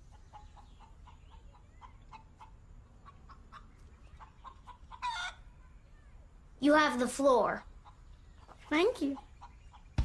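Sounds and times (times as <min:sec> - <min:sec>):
chickens clucking softly: 0:00.0 - 0:06.4, 0:07.6 - 0:10.0.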